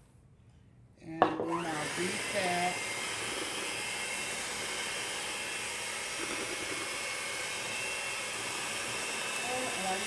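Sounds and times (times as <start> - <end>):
electric hand mixer whining: 1.4 - 10.0.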